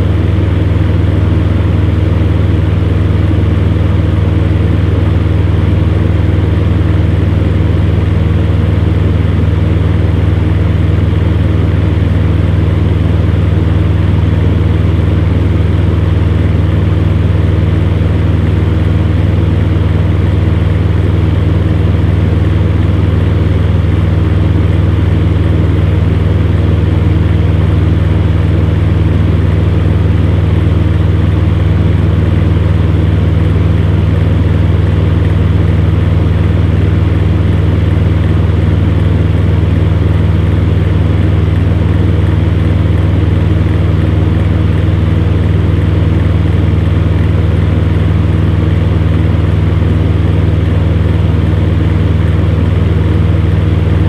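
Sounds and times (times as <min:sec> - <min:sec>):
electric fan air rush: 0:00.0 - 0:54.0
low fan motor hum: 0:00.0 - 0:54.0.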